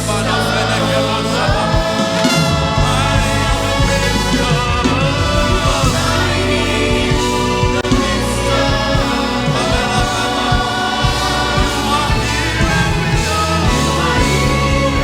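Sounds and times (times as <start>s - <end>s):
band playing worship music: 0.0s - 15.0s
steady bass line: 0.0s - 15.0s
voices singing: 0.0s - 15.0s.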